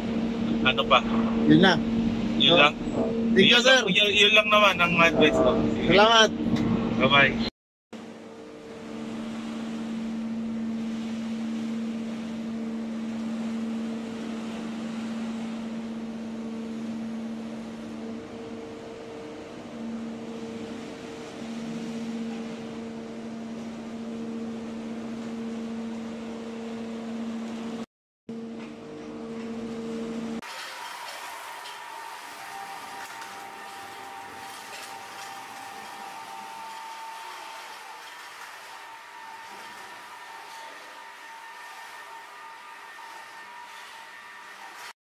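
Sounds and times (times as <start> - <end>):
machinery hum: 0.0 - 45.0.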